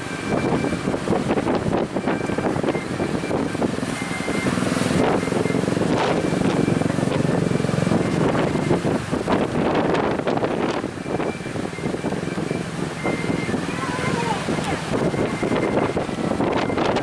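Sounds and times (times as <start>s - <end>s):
motorboat engine running: 0.0s - 17.0s
wind on microphone: 0.0s - 17.0s.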